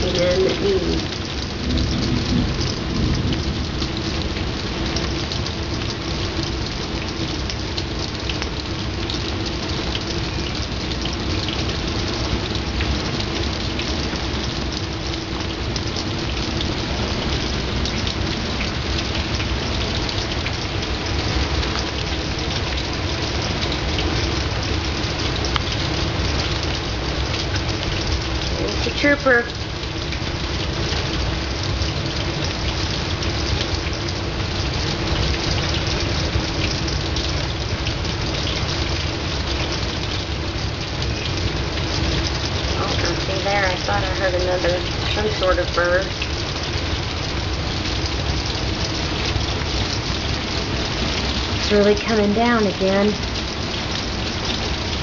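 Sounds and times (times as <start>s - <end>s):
rain falling hard: 0.0s - 55.0s
raindrop hits: 0.0s - 55.0s.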